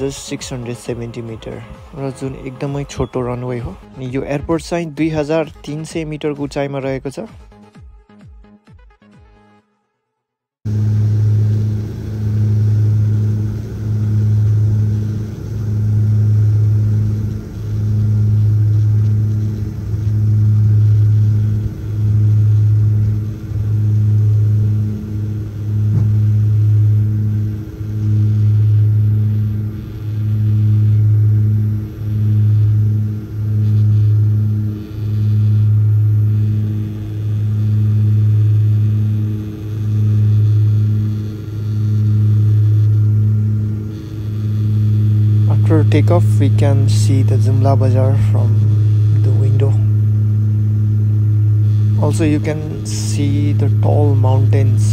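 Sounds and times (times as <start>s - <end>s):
turboprop engines droning: 0.0s - 7.2s, 10.7s - 54.9s.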